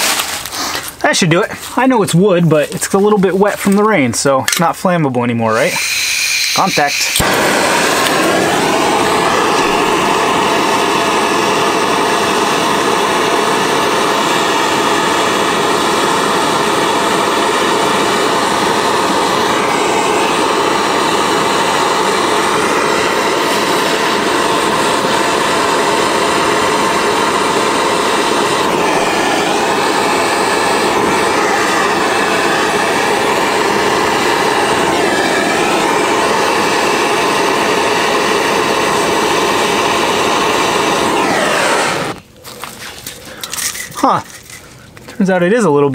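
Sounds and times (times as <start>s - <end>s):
propane torch roaring hiss: 0.0s - 4.6s, 5.5s - 45.3s.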